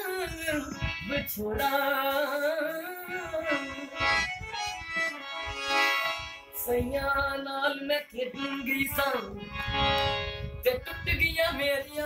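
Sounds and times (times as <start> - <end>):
harmonium melody: 0.0 - 12.0.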